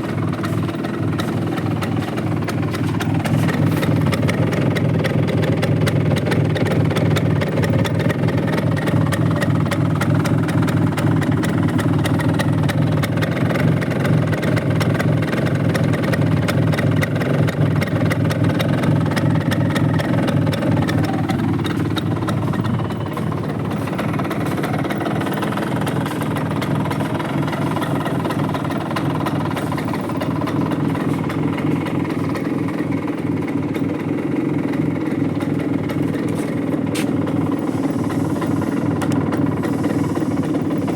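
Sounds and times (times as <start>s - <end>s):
two-stroke scooter engine running: 0.0s - 40.9s.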